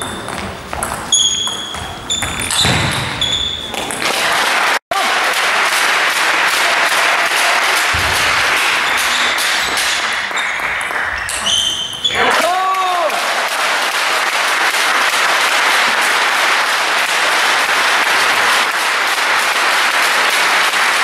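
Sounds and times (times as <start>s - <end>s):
table tennis ball hitting bats and table: 0.0s - 4.4s, 5.0s - 12.5s, 13.1s - 21.0s.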